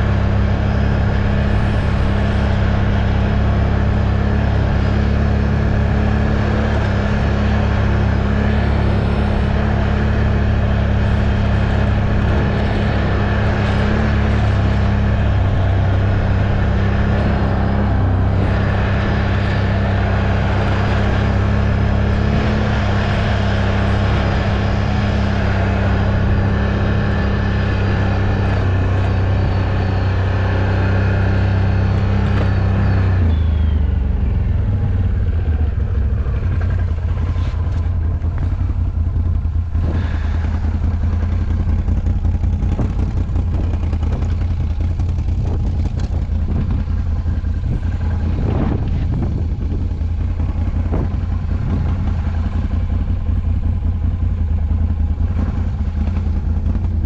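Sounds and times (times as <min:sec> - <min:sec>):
atv engine droning: 0:00.0 - 0:57.0.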